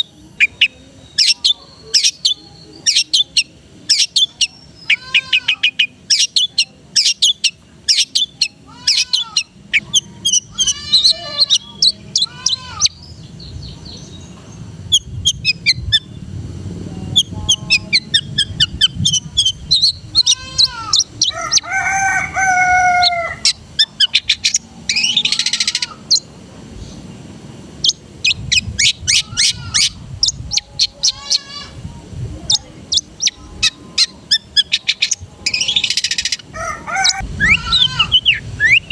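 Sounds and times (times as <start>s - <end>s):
shrike singing: 0.0s - 38.9s.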